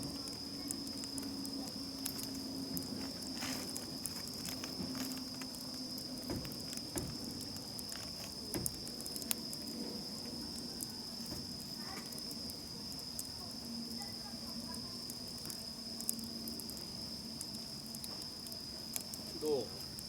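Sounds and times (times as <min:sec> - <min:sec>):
campfire crackling: 0:00.0 - 0:20.0
crickets chirring: 0:00.0 - 0:20.0.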